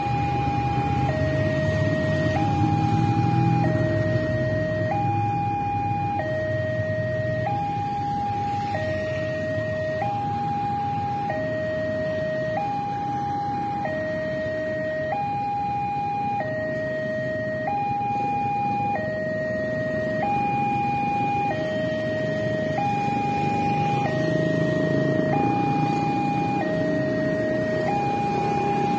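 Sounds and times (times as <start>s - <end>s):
motorbikes and traffic rumbling: 0.0s - 28.9s
two-tone crossing alarm: 0.0s - 28.9s.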